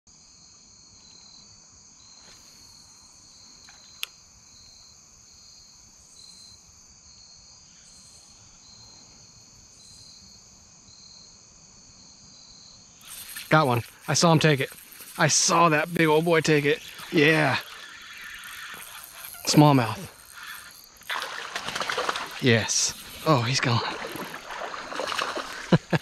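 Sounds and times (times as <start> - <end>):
crickets and insects chirping: 0.1 - 26.0.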